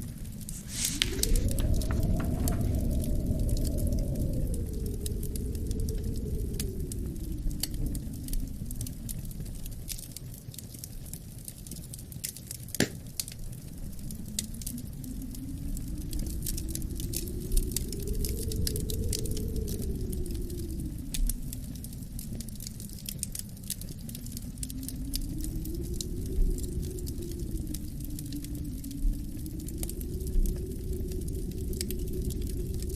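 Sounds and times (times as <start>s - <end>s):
low wind: 0.0s - 32.9s
wood fire crackling and popping: 0.0s - 32.9s.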